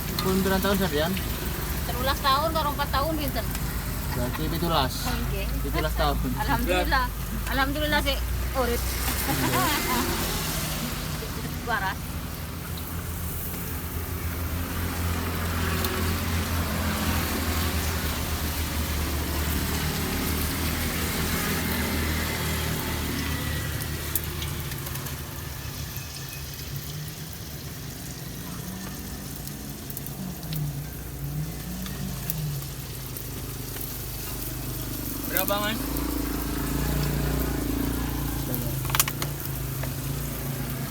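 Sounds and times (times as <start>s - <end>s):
vehicle engine humming: 0.0s - 40.9s.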